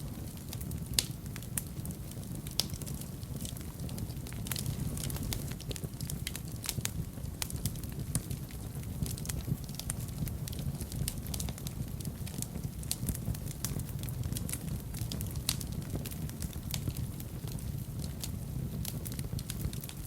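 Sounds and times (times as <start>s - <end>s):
fire crackling and popping: 0.0s - 20.0s
flames rumbling: 0.0s - 20.0s.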